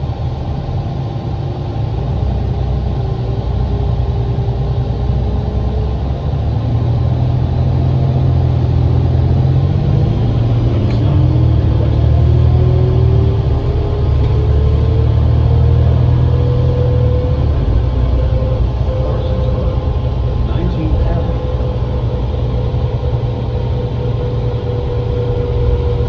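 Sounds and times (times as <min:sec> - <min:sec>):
bus diesel engine rumble: 0:00.0 - 0:26.0
faint rising whine: 0:01.4 - 0:26.0.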